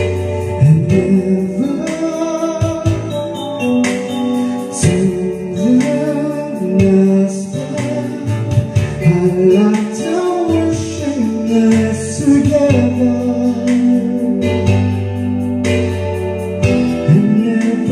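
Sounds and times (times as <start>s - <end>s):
karaoke music: 0.0s - 17.9s.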